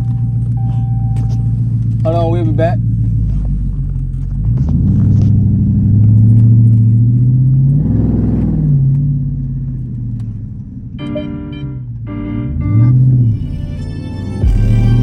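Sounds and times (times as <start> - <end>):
car engine revving with loud exhaust: 0.0 - 15.0.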